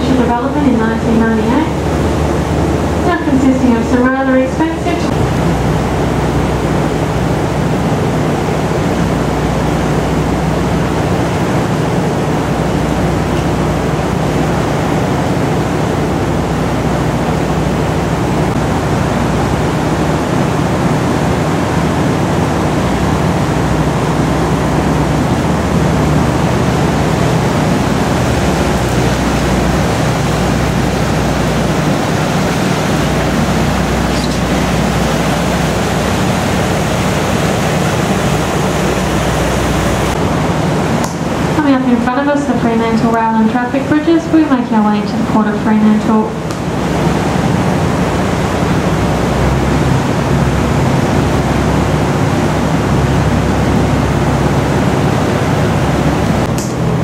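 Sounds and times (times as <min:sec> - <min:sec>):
boat engine drone: 0:00.0 - 0:57.0
water rushing along hull: 0:00.0 - 0:57.0
wind: 0:00.0 - 0:57.0.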